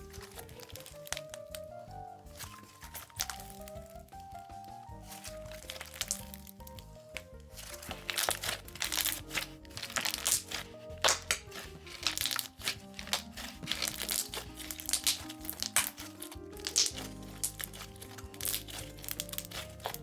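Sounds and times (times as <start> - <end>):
background music: 0.0 - 20.0
slime crackling and popping: 0.0 - 20.0.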